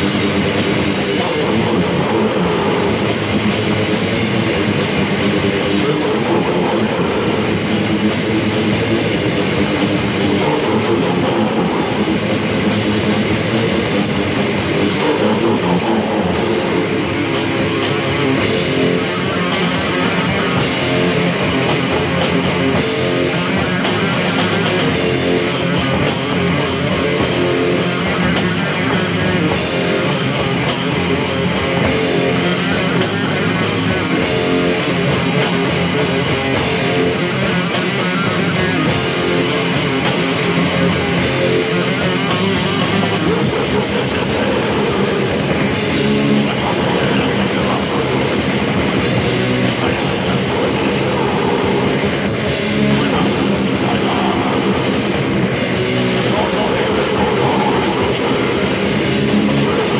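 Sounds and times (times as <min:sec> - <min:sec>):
metal band playing: 0:00.0 - 0:59.9.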